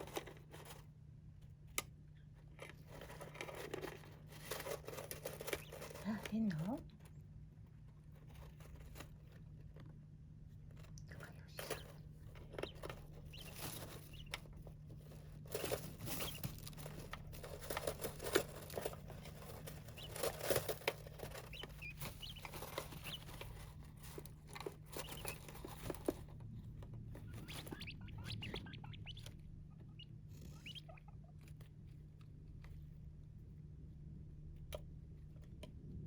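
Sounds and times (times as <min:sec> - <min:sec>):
birds pecking and scratching in sand: 0:00.0 - 0:36.0.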